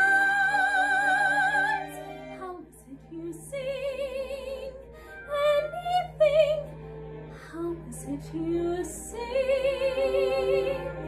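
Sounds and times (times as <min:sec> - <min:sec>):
woman singing soprano: 0:00.0 - 0:06.7, 0:07.4 - 0:11.0.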